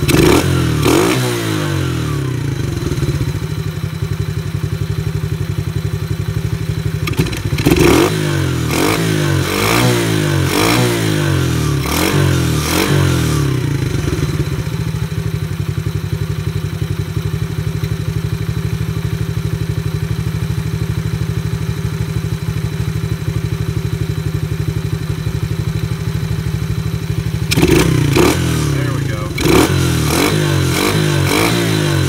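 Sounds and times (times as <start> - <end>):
small engine revving and idling: 0.0 - 32.0.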